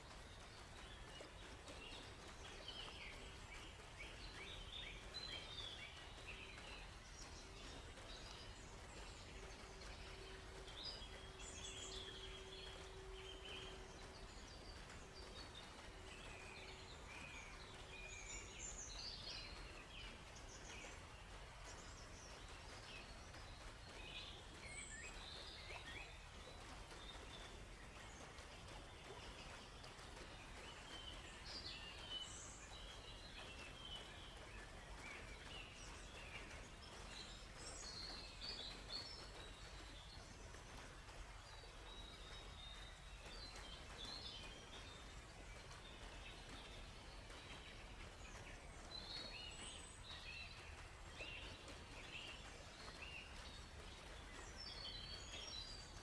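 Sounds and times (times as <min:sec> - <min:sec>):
low background hiss: 0:00.0 - 0:56.0.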